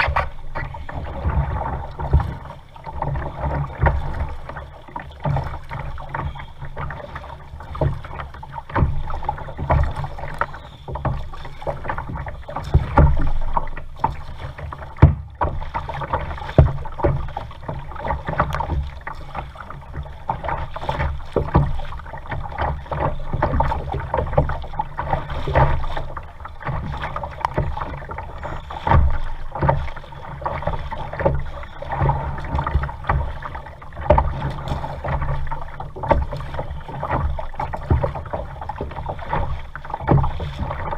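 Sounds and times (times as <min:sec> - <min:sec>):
kayak knocks: 0:00.0 - 0:40.9
paddle strokes splashing water: 0:00.0 - 0:40.9.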